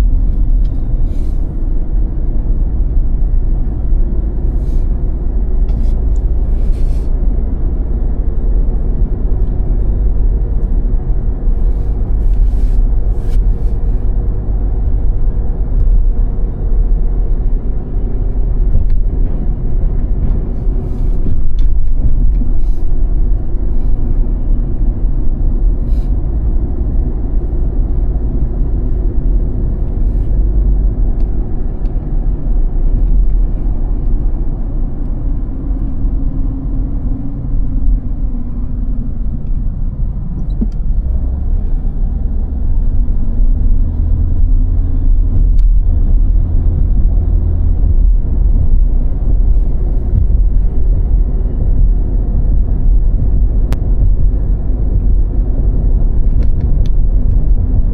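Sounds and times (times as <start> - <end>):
car tyres and engine rumble: 0.0 - 57.9.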